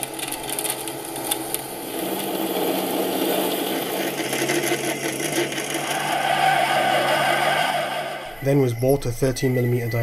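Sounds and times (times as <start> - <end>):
lathe running: 0.0 - 8.6
steady hum: 0.0 - 10.0.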